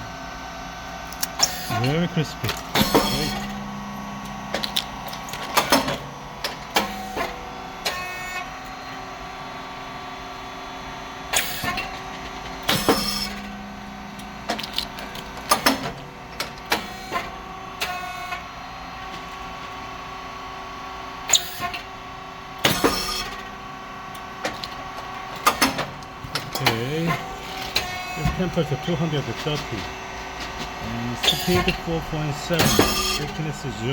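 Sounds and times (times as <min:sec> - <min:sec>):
motor and pump hum: 0:00.0 - 0:33.9.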